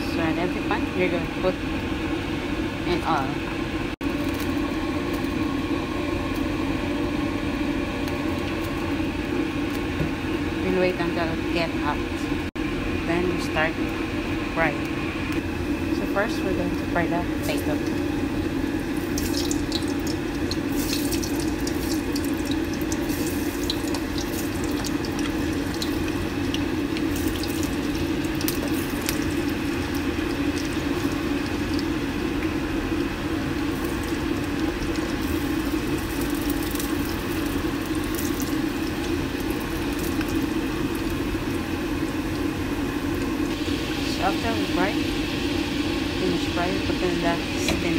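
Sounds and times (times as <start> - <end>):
potatoes deep-frying in oil: 4.0 - 12.4, 14.5 - 47.9.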